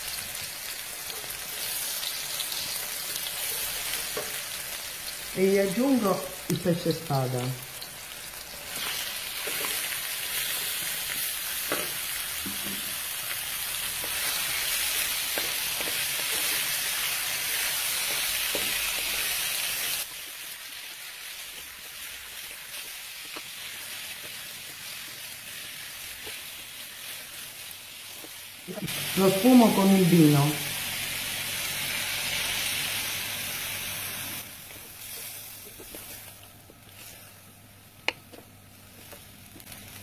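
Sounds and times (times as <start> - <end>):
fish sizzling in a frying pan: 0.0 - 40.0.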